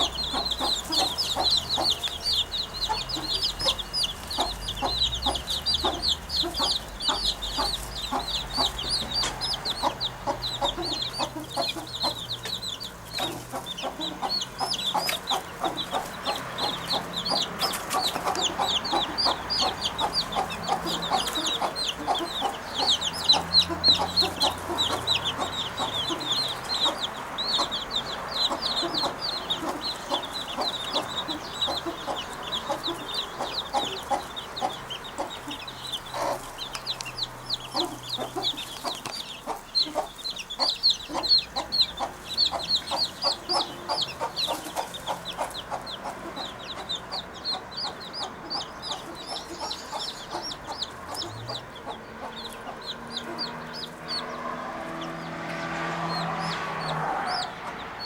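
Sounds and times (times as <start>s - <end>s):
birds chirping: 0.0s - 58.0s
hen clucking: 0.0s - 58.0s.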